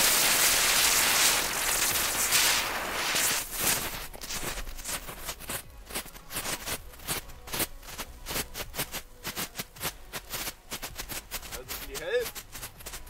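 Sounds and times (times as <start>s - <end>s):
firework strobes popping: 0.0s - 13.0s.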